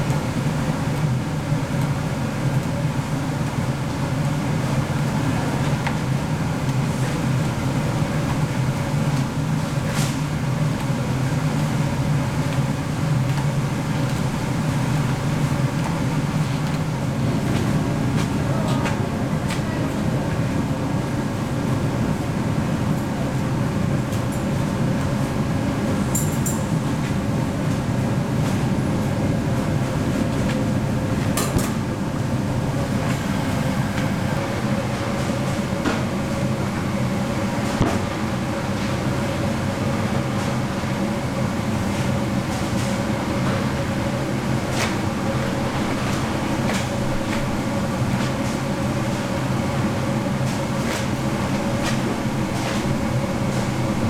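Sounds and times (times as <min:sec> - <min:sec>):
factory machinery hum: 0:00.0 - 0:54.0.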